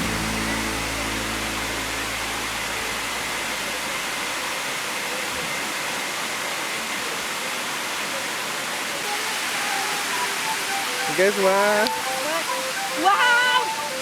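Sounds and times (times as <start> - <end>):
cascading water rushing: 0.0 - 14.0.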